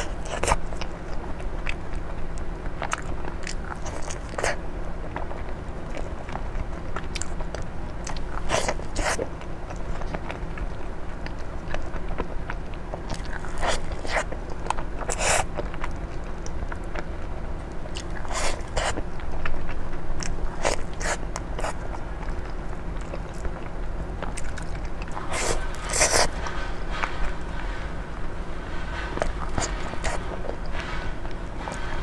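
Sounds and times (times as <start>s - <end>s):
biting and chewing food: 0.0s - 27.8s, 28.8s - 32.0s.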